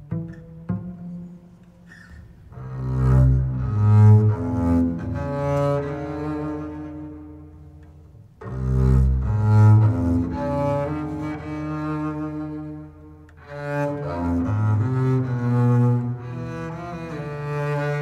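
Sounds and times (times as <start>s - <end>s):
bowed string instrument: 0.0s - 18.0s.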